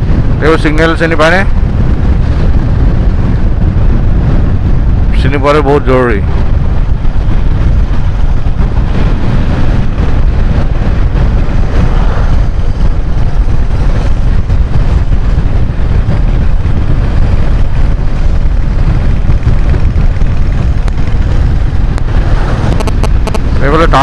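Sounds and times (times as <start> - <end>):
moving vehicle rumble: 0.0 - 24.0
wind buffeting microphone: 0.0 - 24.0.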